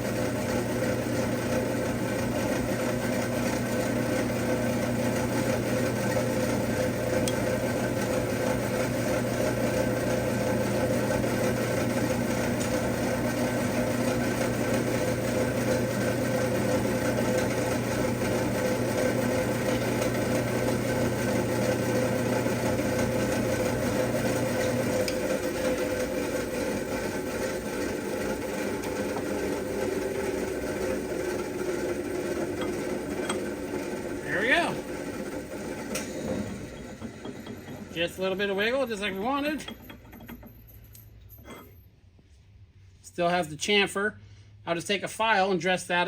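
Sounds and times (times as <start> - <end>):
metal lathe running: 0.0 - 40.6.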